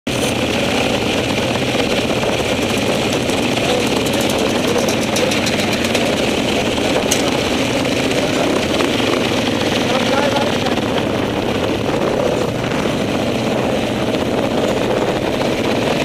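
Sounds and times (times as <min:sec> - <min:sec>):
motorcycle engine idling: 0:00.1 - 0:16.0.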